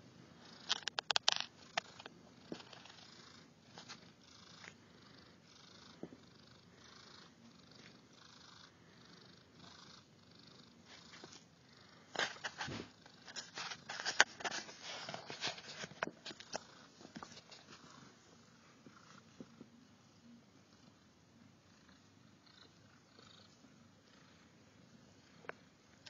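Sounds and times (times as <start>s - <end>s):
cat purring: 0.4s - 26.0s.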